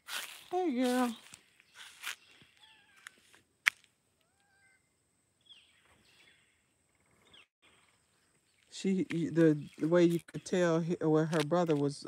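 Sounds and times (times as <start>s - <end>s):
faint chirping calls: 0.3s - 3.4s, 4.1s - 11.0s.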